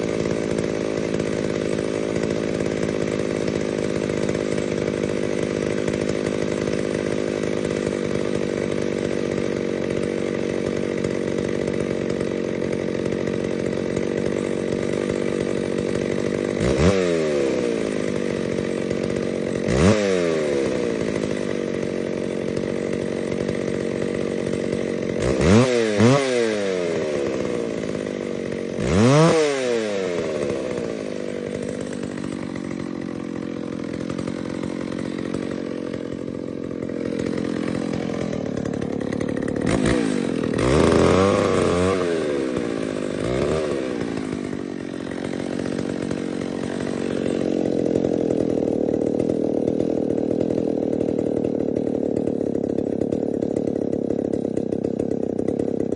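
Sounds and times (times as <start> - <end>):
chainsaw running and revving: 0.0 - 55.9.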